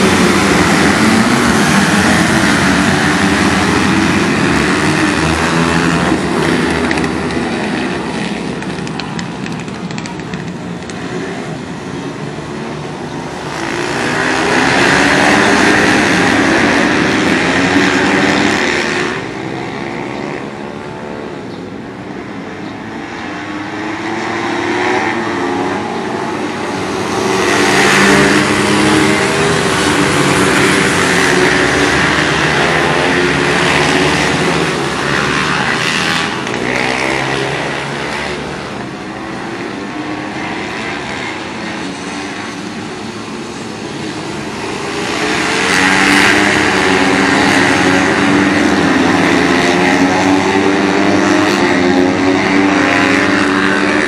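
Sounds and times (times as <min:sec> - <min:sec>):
small motorcycle engines revving: 0:00.0 - 0:54.0.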